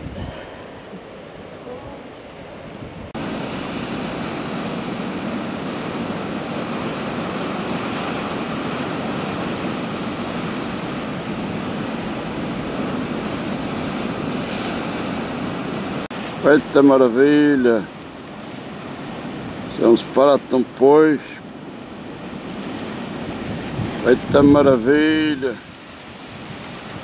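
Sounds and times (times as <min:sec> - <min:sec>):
surf washing against rocks: 0:00.0 - 0:27.0
wind: 0:00.0 - 0:27.0.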